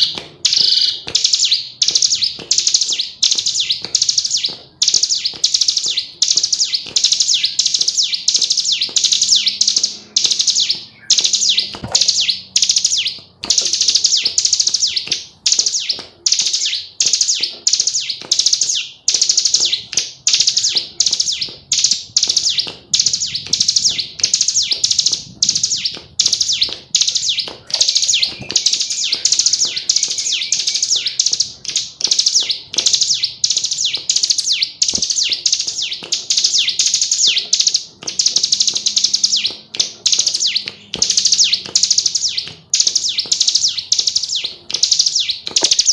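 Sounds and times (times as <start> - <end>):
bird high-pitched chirping: 0.0 - 45.9.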